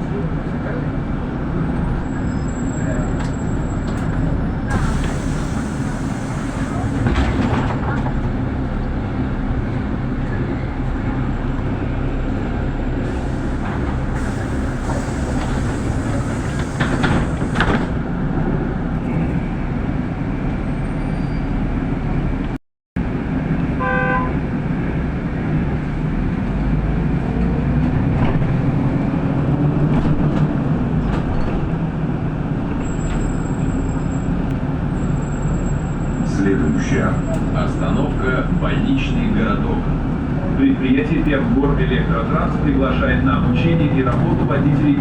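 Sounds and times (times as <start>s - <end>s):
bus body rattling: 0.0s - 22.5s, 24.6s - 41.6s
bus rumble and road noise: 0.0s - 45.0s.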